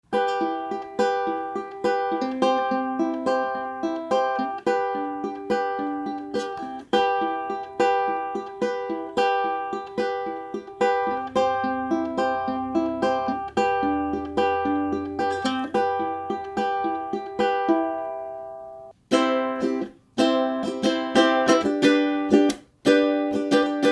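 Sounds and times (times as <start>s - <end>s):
ukulele strumming chords: 0.1s - 23.9s.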